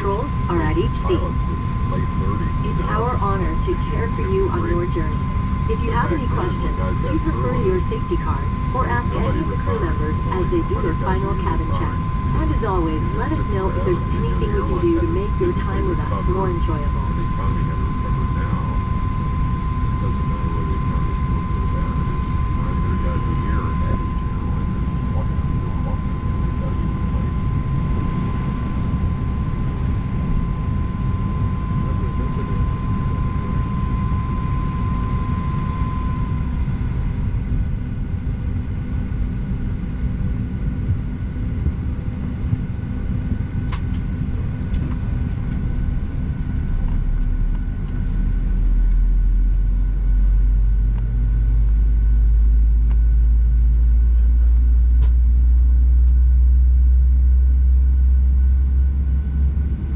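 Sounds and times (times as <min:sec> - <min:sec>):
aircraft cabin engine rumble: 0:00.0 - 0:59.9
thin steady whine: 0:00.0 - 0:59.9.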